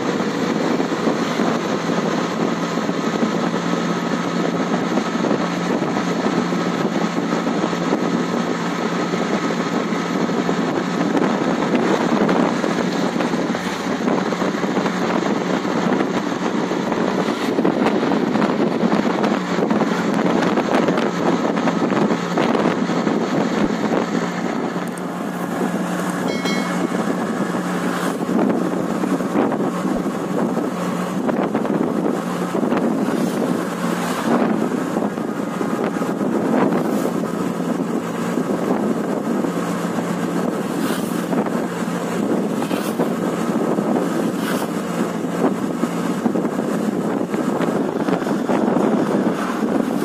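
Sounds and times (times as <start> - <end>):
engine drone: 0.0 - 50.0
wind rushing over microphone: 0.0 - 50.0.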